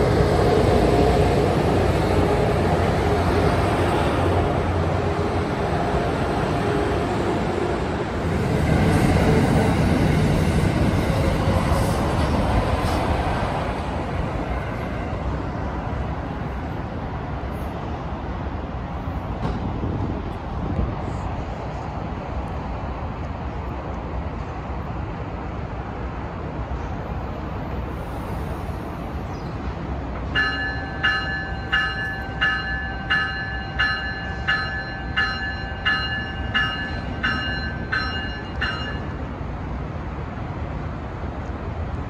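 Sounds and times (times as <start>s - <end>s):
faint train whine: 0.0s - 42.0s
passenger train rumbling by: 0.0s - 42.0s.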